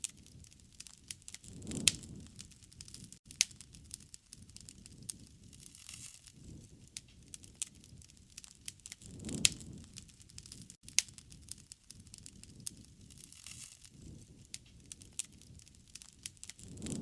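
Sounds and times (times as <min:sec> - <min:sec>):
campfire crackling and popping: 0:00.0 - 0:17.0
low rumble of flame: 0:00.0 - 0:17.0.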